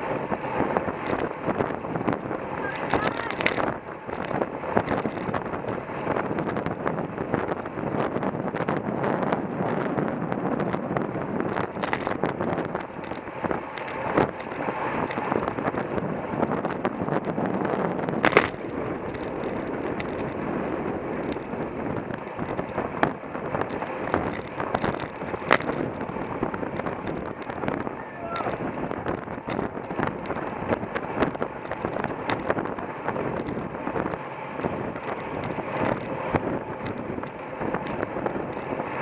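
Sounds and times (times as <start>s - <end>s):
bike rattling over road: 0.0s - 39.0s
wind on microphone: 0.0s - 39.0s.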